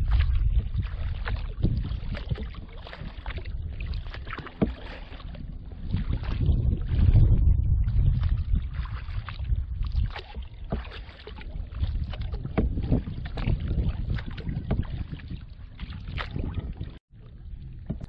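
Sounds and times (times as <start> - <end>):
paddle water splashing: 0.0 - 18.0
wind on microphone: 0.0 - 18.0.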